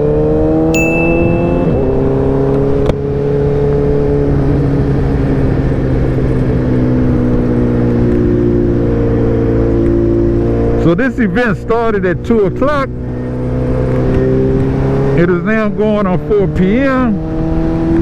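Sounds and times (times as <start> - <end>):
motorcycle engine while riding: 0.0 - 18.0.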